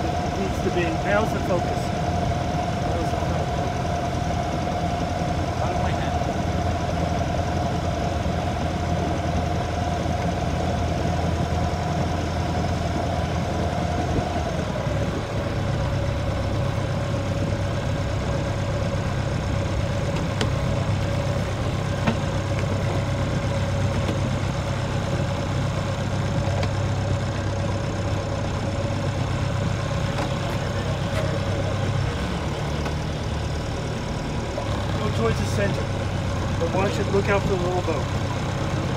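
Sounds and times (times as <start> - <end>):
boat engine humming with whine: 0.0 - 38.9.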